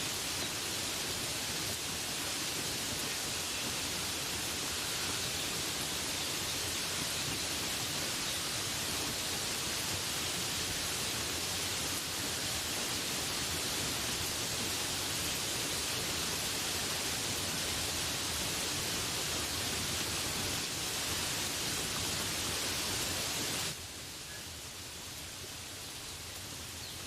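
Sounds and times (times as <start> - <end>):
steady rainfall hiss: 0.0 - 27.0.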